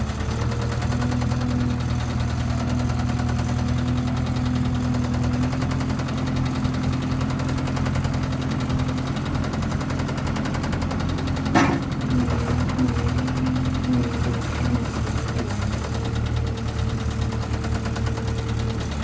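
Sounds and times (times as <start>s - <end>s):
engine running with rapid knocking: 0.0s - 19.0s.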